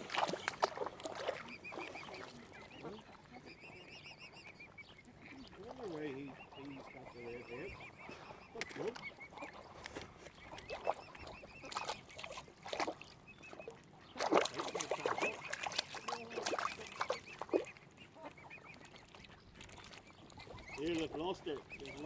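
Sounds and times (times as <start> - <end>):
waterfowl honking and quacking: 0.0 - 22.0.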